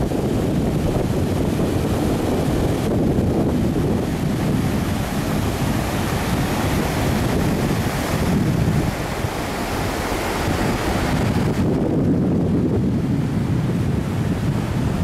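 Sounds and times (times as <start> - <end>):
waves washing over rocks: 0.0 - 15.0
wind buffeting microphone: 0.0 - 15.0.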